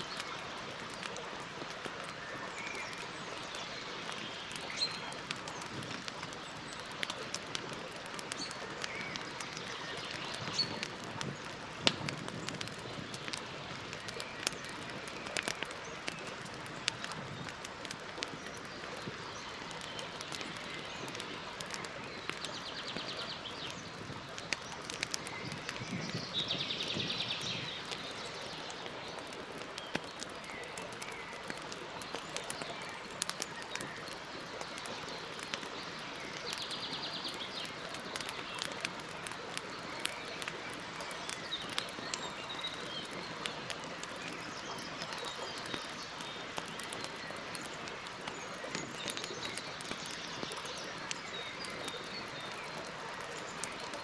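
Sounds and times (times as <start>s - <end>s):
campfire crackling and popping: 0.0s - 54.0s
birds chirping: 2.0s - 54.0s.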